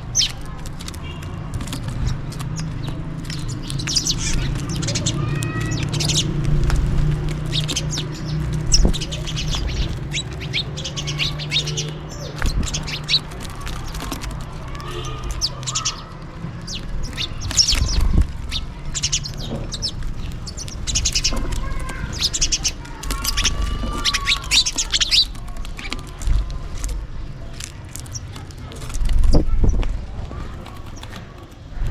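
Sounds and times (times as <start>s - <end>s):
sparrows chirping: 0.0s - 27.0s, 27.6s - 29.8s, 30.5s - 31.9s.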